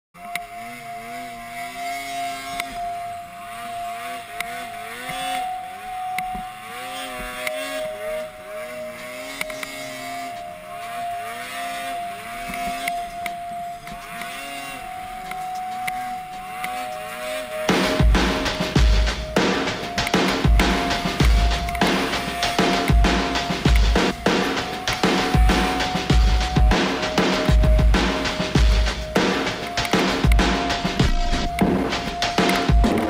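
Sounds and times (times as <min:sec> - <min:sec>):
snowmobile engine revving: 0:00.2 - 0:33.0
steady high whine: 0:00.2 - 0:33.0.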